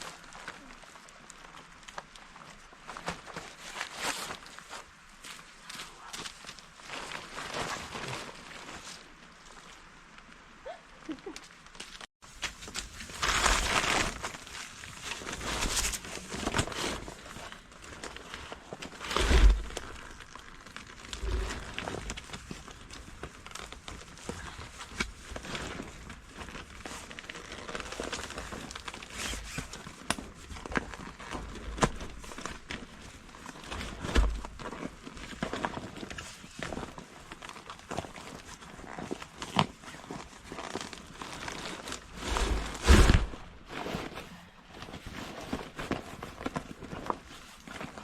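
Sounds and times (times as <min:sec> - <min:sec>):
rustling and crinkling: 0:00.0 - 0:48.0.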